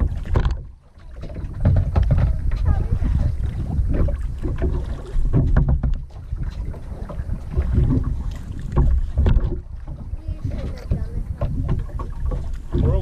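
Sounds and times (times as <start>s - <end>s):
sharp knocks or splashes: 0.0s - 13.0s
wind buffeting microphone: 0.0s - 13.0s.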